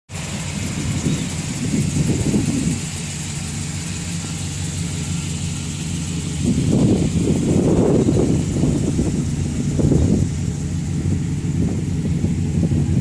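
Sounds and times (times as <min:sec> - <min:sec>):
rough low gusts: 0:00.1 - 0:13.0
vehicle engine idling: 0:00.1 - 0:13.0.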